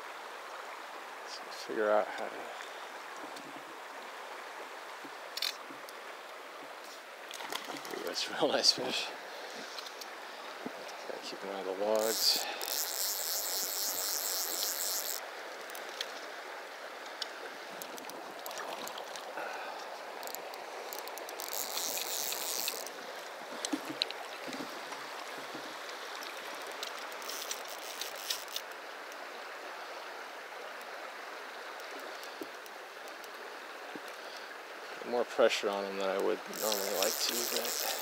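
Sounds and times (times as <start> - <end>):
river water flowing: 0.0 - 38.0.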